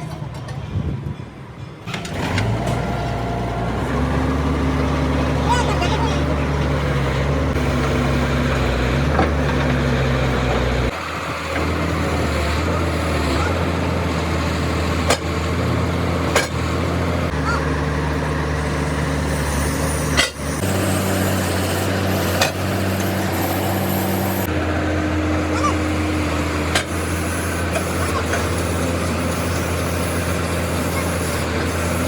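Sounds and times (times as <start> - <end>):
excavator diesel engine running: 1.6 - 32.0.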